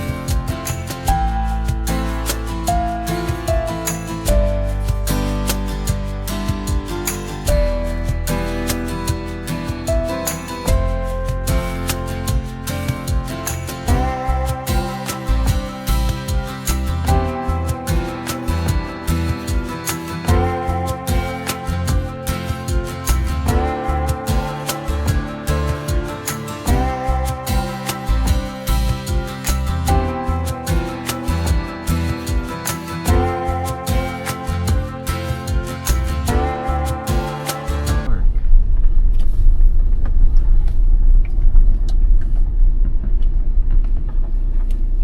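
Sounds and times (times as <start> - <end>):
background music with plucked guitar: 0.0 - 38.1.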